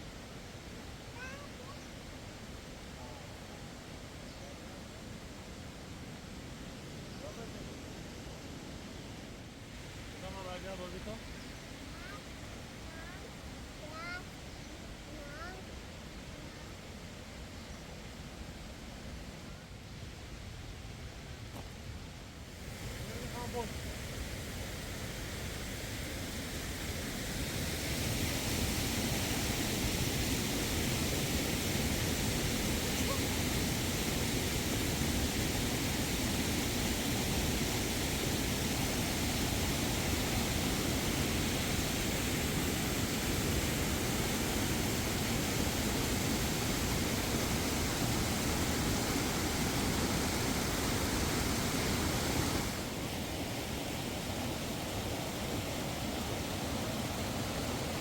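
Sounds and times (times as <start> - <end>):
falling water rushing: 0.0 - 19.4, 22.4 - 58.0.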